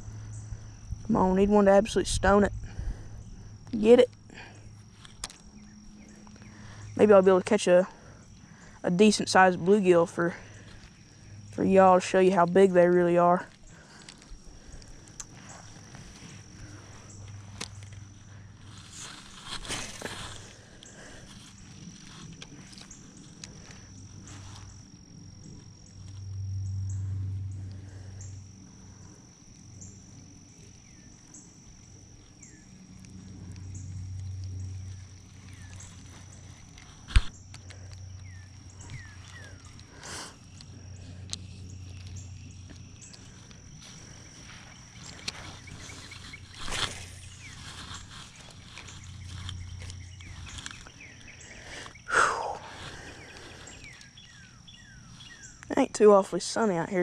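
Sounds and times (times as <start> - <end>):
insects trilling: 0.0 - 57.0
low hum: 0.0 - 57.0.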